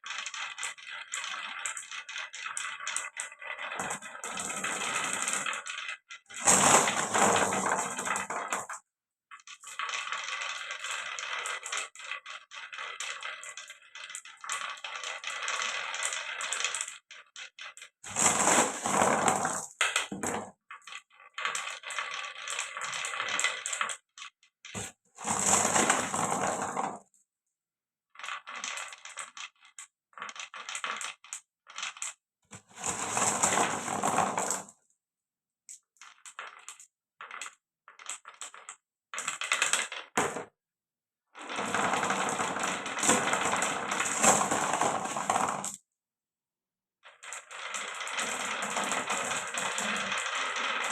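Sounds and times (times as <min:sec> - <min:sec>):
marbles rolling and clattering: 0:00.0 - 0:27.2, 0:28.1 - 0:34.8, 0:35.7 - 0:40.6, 0:41.4 - 0:45.8, 0:47.1 - 0:50.9.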